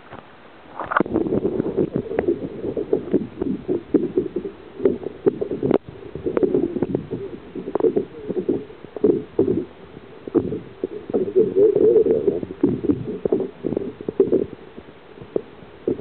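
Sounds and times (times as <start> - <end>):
muffled underwater sloshing: 0.0 - 16.0.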